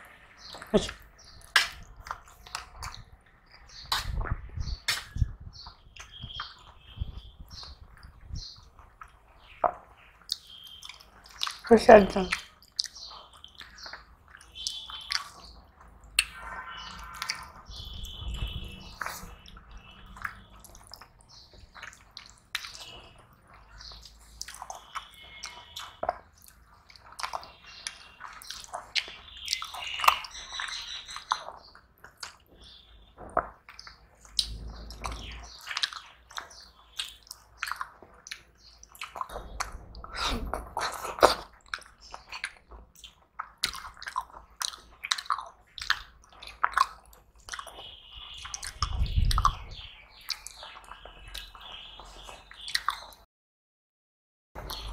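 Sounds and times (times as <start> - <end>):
wet squishing of food by hand: 0.0 - 53.2
chewing: 0.4 - 6.8, 8.0 - 11.7, 12.3 - 16.4, 17.1 - 17.7, 18.9 - 39.8, 40.5 - 49.6, 50.2 - 53.2.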